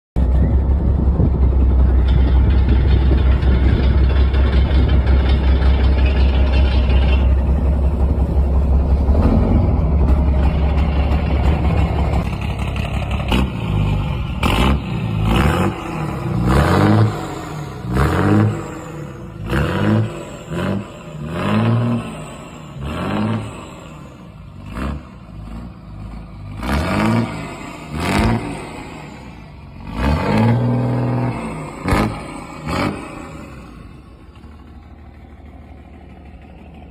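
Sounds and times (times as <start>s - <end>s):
boat engine revving: 0.2s - 36.2s.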